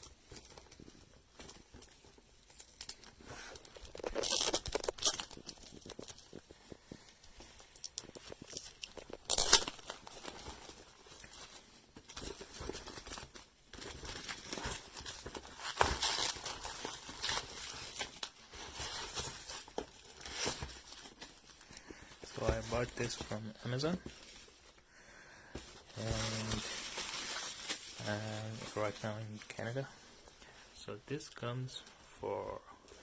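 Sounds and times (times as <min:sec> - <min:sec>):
packaging rustling and crinkling: 0:00.0 - 0:24.9, 0:25.5 - 0:30.4.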